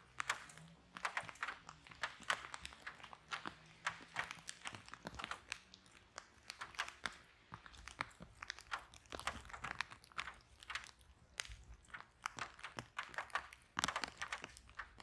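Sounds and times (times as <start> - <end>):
sharp pops and snaps: 0.0 - 15.0.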